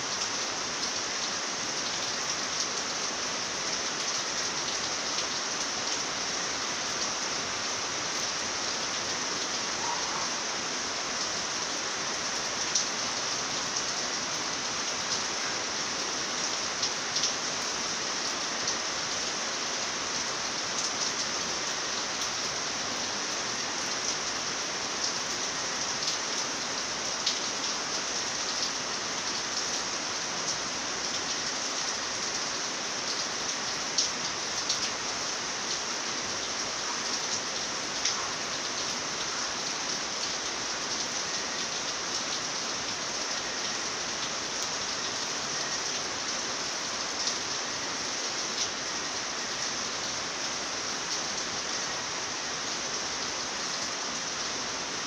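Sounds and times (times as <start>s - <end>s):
hiss of falling rain: 0.0s - 55.0s.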